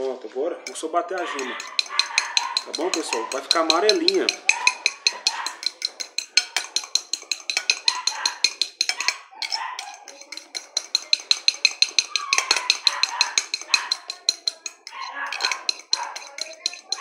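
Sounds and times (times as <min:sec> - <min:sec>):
fork clinking against glass bowl: 0:00.6 - 0:17.0.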